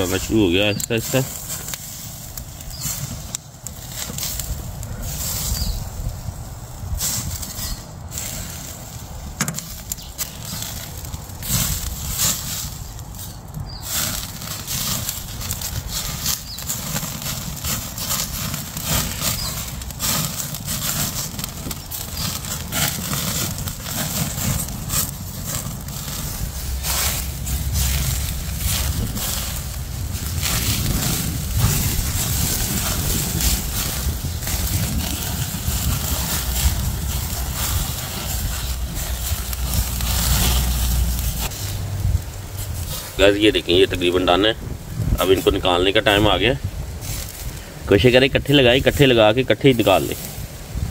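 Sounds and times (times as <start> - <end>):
fat crackling on hot coals: 0.0 - 50.9
kebabs sizzling on barbecue: 0.0 - 50.9
steady low rumble: 0.0 - 50.9.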